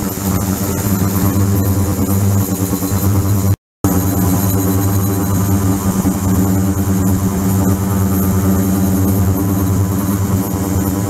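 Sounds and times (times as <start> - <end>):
ultrasonic cleaner buzzing hum: 0.0 - 11.0.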